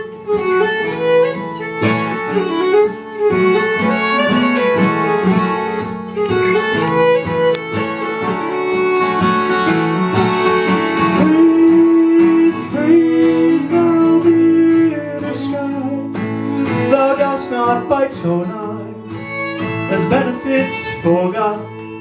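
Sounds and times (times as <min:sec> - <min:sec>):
fiddle melody: 0:00.0 - 0:22.0
guitar and bass accompaniment: 0:00.0 - 0:22.0.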